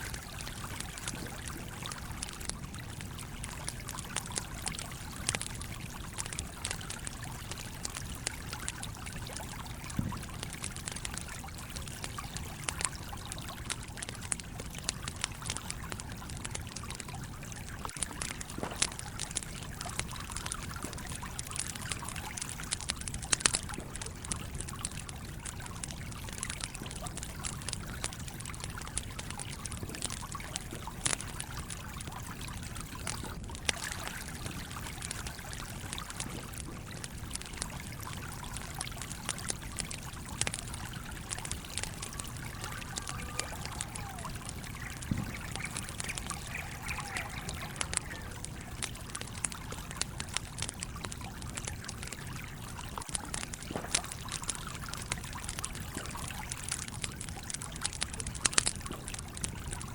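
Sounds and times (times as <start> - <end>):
campfire crackling and popping: 0.0 - 59.9
small stream trickling: 0.0 - 59.9.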